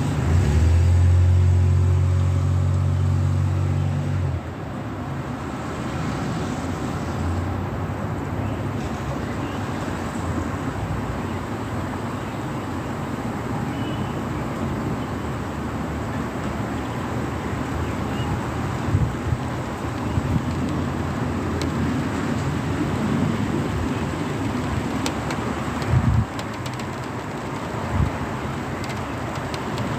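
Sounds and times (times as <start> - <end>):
low vehicle engine rumble: 0.0 - 29.9
traffic hiss in rain: 0.0 - 29.9.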